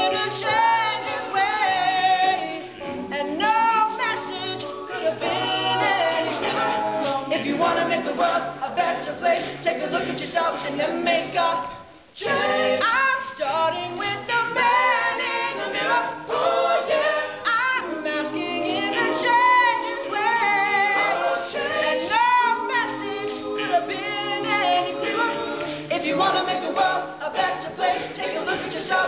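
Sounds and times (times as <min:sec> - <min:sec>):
men singing a cappella: 0:00.0 - 0:29.0.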